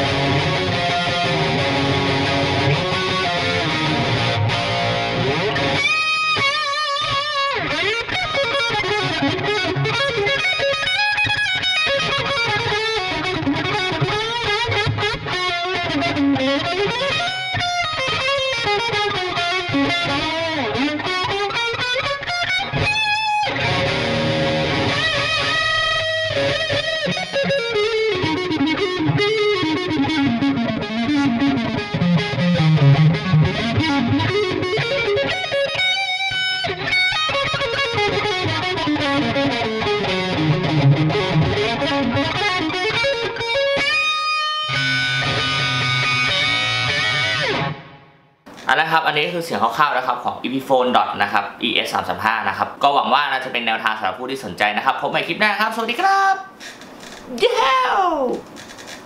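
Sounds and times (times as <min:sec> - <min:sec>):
distorted electric guitar lead: 0:00.0 - 0:48.8.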